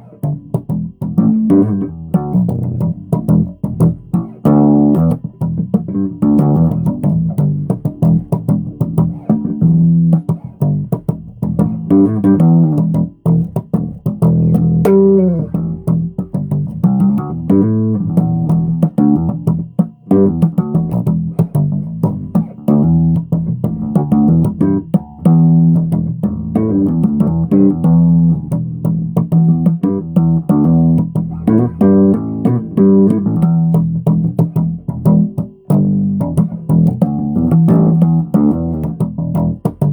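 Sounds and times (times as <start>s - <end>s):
electric bass guitar playing: 0.0s - 39.9s.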